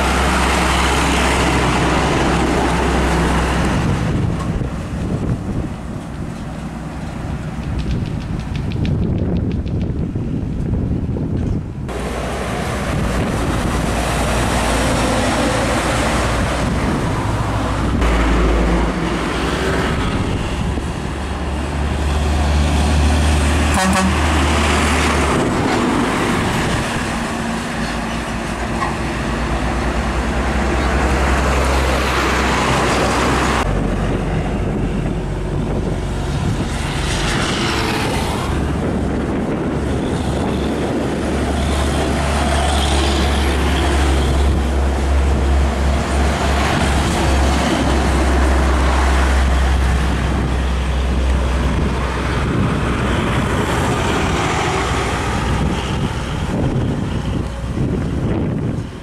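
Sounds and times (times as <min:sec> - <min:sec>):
diesel trucks driving past: 0:00.0 - 0:10.4, 0:11.9 - 0:59.0.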